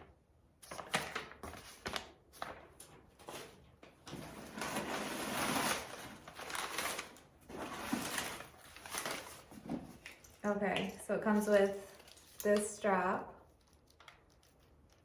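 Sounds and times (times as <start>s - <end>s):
packaging crinkling and rustling: 0.7s - 10.5s, 11.3s - 12.9s, 13.5s - 15.0s.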